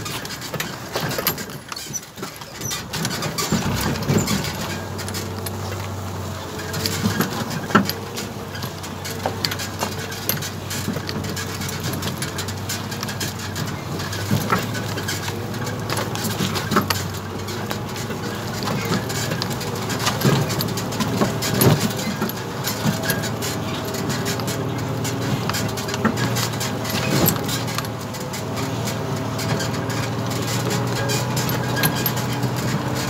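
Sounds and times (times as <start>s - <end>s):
clicks knocks and rattles: 0.0s - 33.0s
vehicle engine running: 0.0s - 33.0s.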